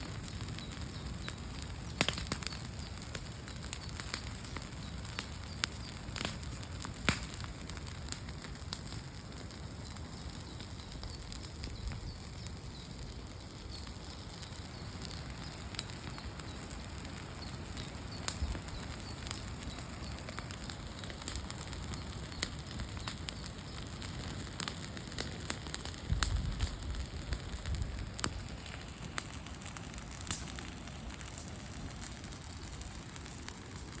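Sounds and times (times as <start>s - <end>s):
campfire crackling: 0.0s - 34.0s
fire hiss: 0.0s - 34.0s
sharp fire pops: 0.0s - 34.0s.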